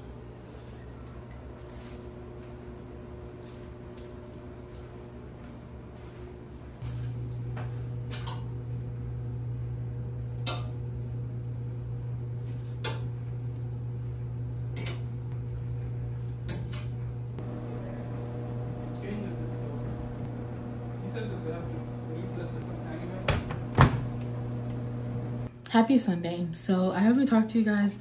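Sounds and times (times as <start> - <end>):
steady low hum: 0.0 - 25.7.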